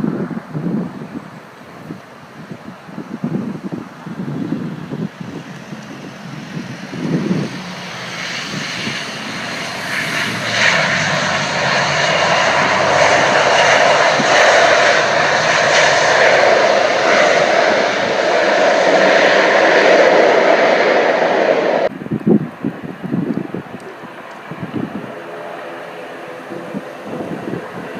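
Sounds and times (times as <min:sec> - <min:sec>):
turboprop plane engines roaring: 0:00.0 - 0:27.9.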